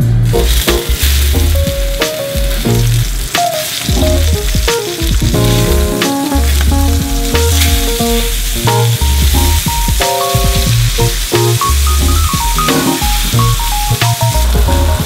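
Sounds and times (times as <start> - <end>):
bass-heavy background music: 0.0 - 15.0
fish sizzling in hot oil: 0.2 - 15.0.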